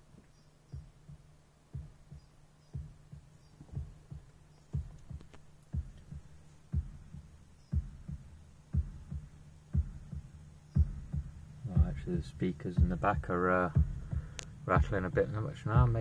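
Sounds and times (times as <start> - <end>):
bass-heavy music from car speakers: 0.7 - 16.0.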